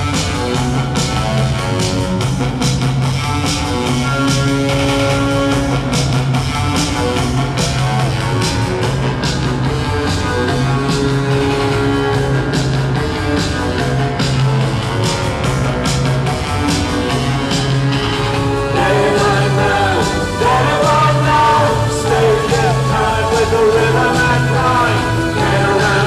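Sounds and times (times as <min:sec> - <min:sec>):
instrumental band music: 0:00.0 - 0:26.0.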